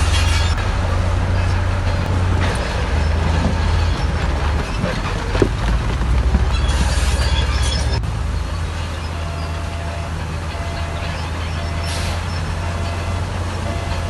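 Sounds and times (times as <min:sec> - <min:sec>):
high metallic squeaks: 0:00.0 - 0:05.7, 0:06.3 - 0:14.0
diesel engine droning: 0:00.0 - 0:14.0.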